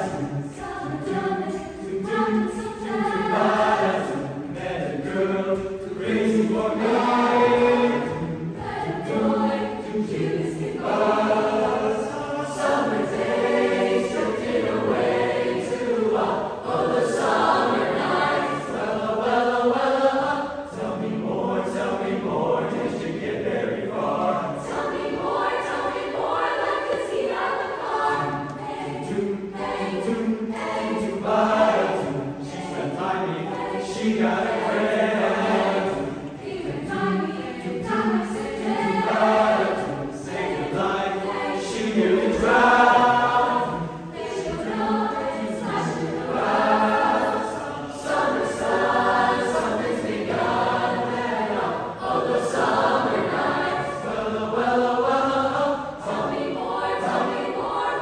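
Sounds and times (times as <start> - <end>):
youth choir singing a cappella: 0.0 - 58.0.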